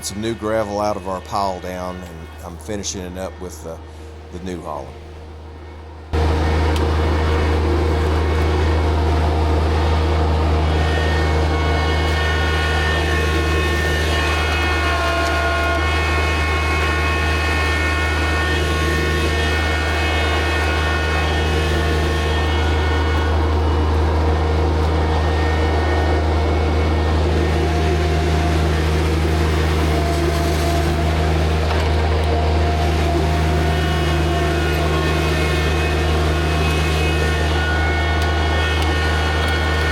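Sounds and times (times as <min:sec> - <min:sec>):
thin engine whine: 0:00.0 - 0:39.9
tractor diesel engine running: 0:00.0 - 0:39.9.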